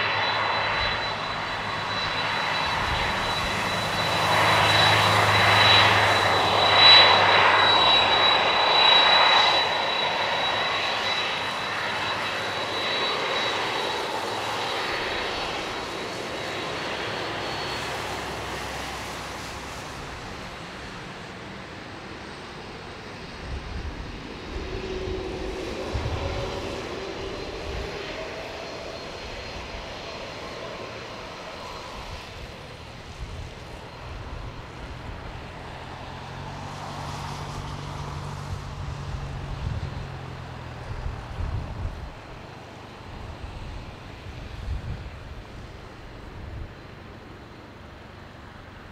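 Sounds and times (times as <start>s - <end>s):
jet engine rumble: 0.0s - 48.9s
jet engine whine: 0.0s - 48.9s.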